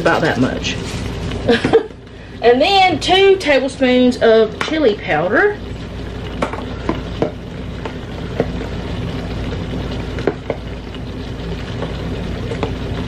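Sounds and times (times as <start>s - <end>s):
meat and vegetables sizzling: 0.0s - 13.0s.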